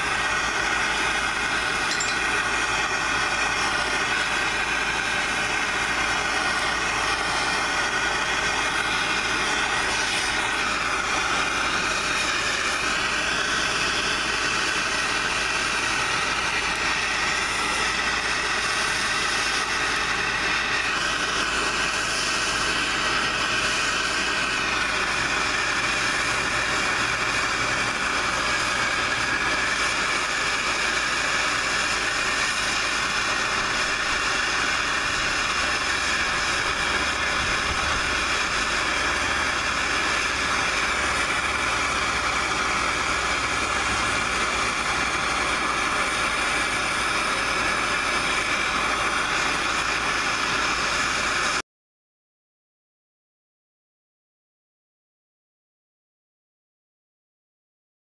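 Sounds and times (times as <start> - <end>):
gas torch flame hissing: 0.0 - 51.6.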